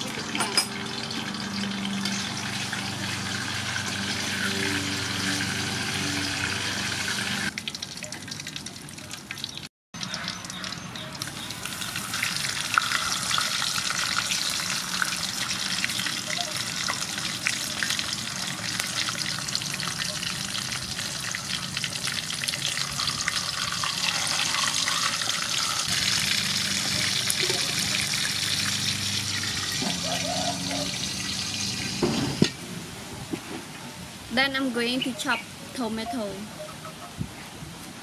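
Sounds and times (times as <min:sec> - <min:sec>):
fish sizzling in hot oil: 0:00.0 - 0:32.4.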